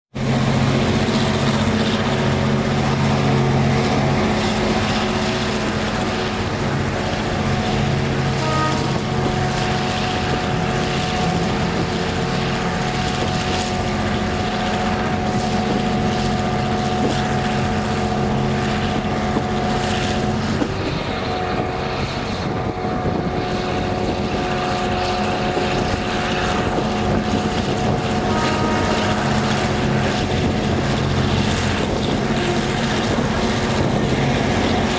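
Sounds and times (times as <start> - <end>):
diesel locomotive engine drone: 0.0 - 34.9.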